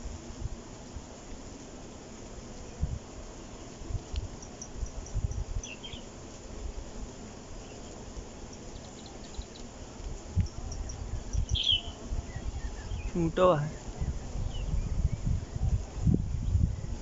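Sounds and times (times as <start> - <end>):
higher insect call: 0.0 - 17.0
insects chirping: 0.0 - 17.0.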